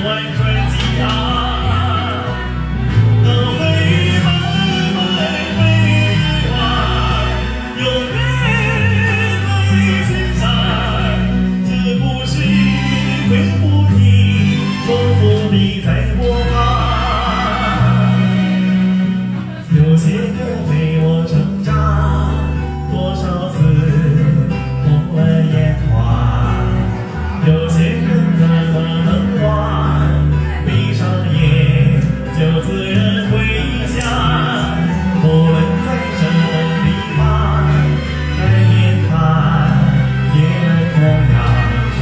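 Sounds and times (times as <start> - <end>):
karaoke backing track with bass: 0.0 - 42.0
person singing: 0.0 - 42.0.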